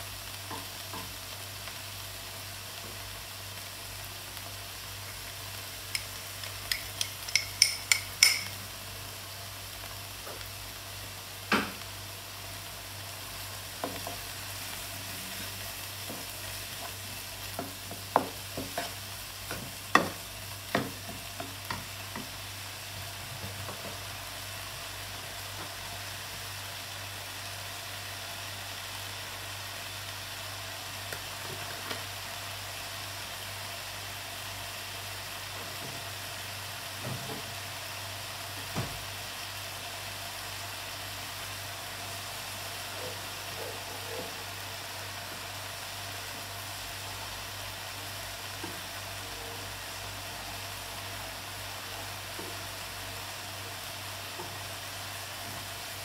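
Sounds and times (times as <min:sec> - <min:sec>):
meat frying with sizzle: 0:00.0 - 0:56.0.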